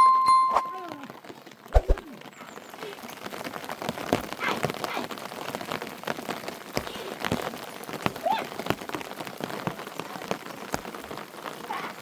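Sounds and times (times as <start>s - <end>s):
rain drops striking a surface: 0.0s - 12.0s.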